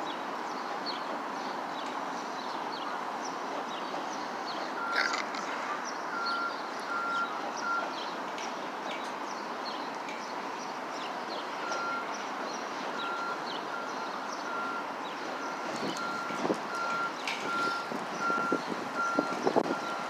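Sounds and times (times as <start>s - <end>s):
small birds chirping: 0.0s - 16.2s.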